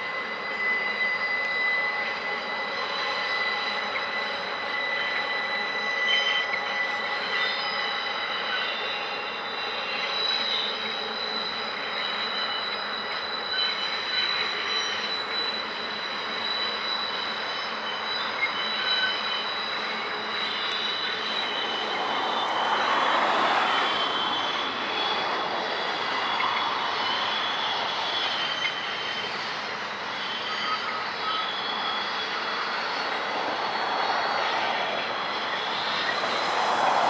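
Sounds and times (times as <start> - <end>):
diesel freight train running: 0.0 - 37.0
high squeal of wheel flanges: 0.0 - 37.0.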